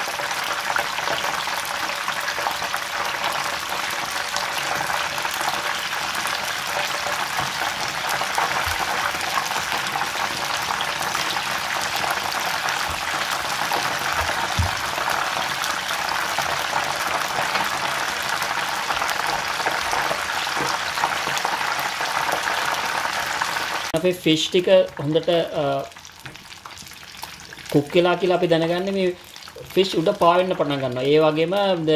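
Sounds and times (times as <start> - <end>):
fish deep-frying in oil: 0.0 - 31.9.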